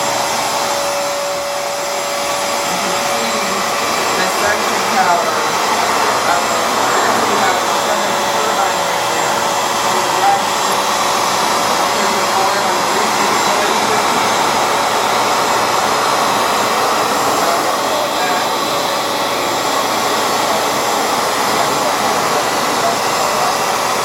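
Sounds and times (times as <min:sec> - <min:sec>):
floor cleaner motor whirring: 0:00.0 - 0:24.0.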